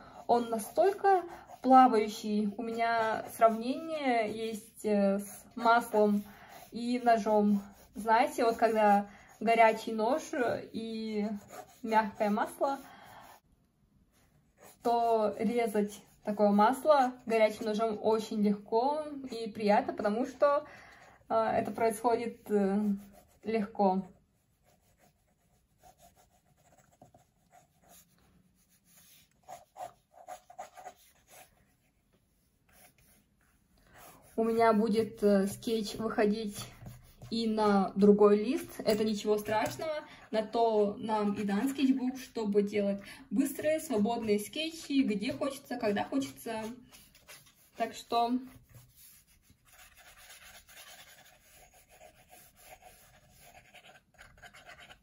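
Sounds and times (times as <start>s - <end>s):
pencil scratching on paper: 0.0s - 13.4s, 14.1s - 18.0s, 21.1s - 41.8s, 43.4s - 55.0s.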